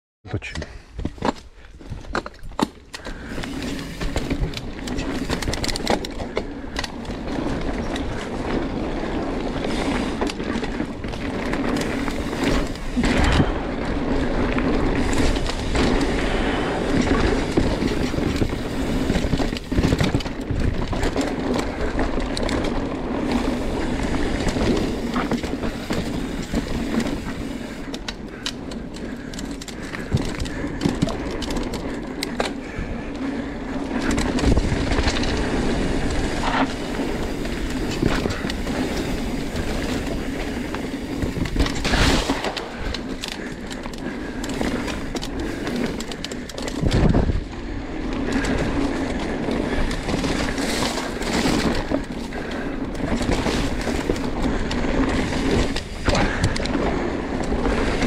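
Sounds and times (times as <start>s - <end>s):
bike tyres on dirt: 0.7s - 58.0s
bike rattling over bumps: 1.0s - 58.0s.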